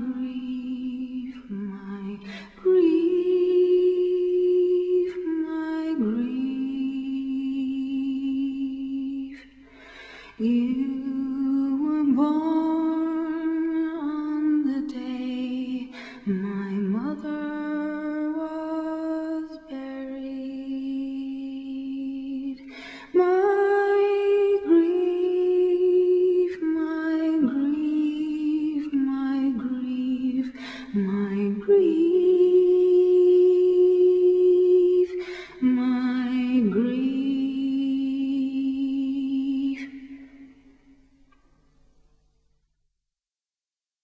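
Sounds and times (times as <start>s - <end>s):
woman singing a cappella: 0.0s - 9.6s, 10.3s - 40.6s.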